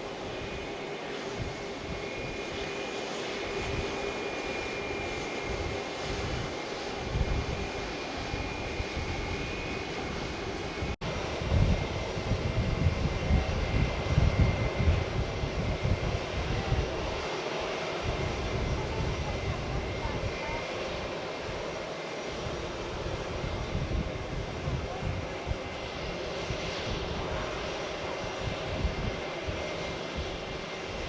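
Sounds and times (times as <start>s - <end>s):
jet engines whining and rumbling: 0.0s - 31.0s.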